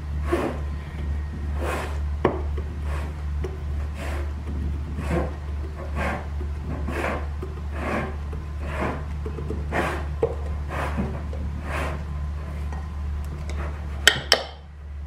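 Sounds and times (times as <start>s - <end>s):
steady low hum: 0.0s - 15.0s
piston rubbing scrape: 0.2s - 12.8s, 13.4s - 14.1s.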